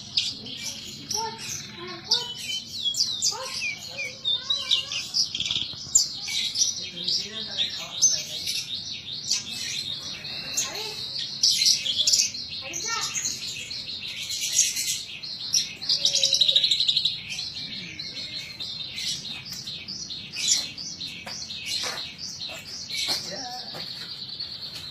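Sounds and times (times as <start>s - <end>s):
lark singing chirps and trills: 0.0s - 24.9s.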